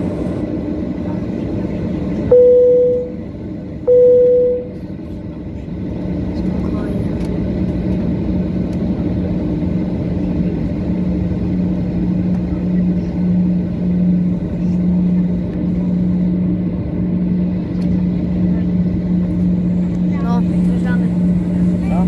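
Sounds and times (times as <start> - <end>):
jet cabin drone: 0.0 - 22.0.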